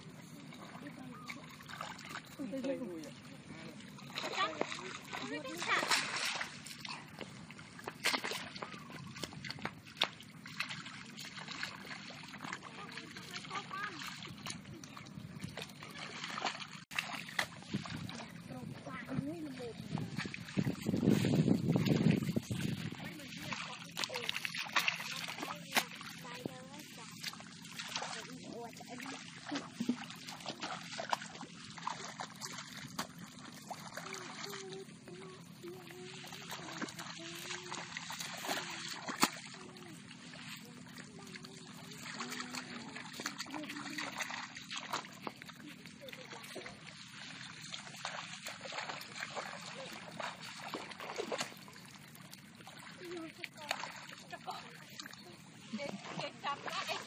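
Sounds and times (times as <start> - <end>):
muddy water sloshing: 0.0 - 57.0.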